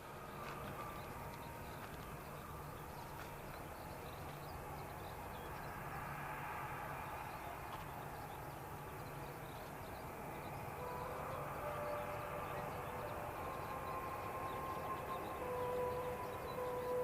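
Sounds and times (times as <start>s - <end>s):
distant jet airliner rumble: 0.0s - 17.0s
faint jet engine whine: 0.0s - 17.0s
outdoor background noise: 0.0s - 17.0s.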